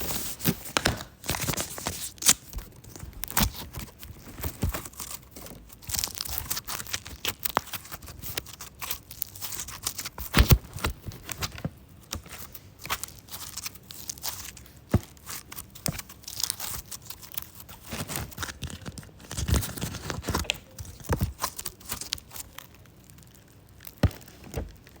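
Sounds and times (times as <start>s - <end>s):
packaging crinkling and tearing: 0.0s - 25.0s.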